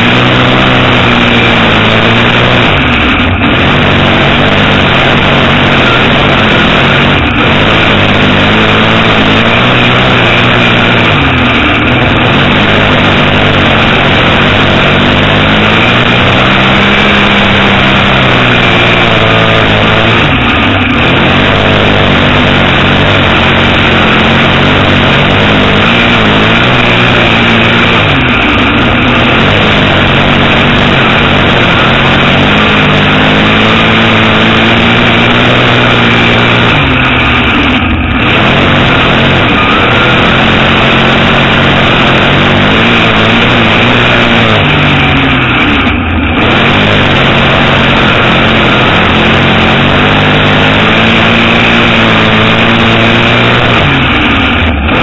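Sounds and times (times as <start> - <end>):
race car engine at full speed: 0.0 - 55.0.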